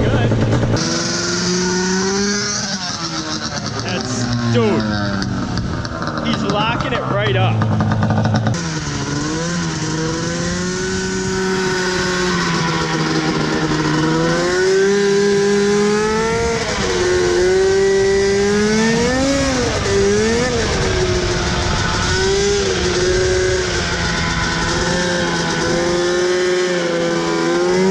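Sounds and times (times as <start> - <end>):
vehicle engine revving: 0.0 - 27.9.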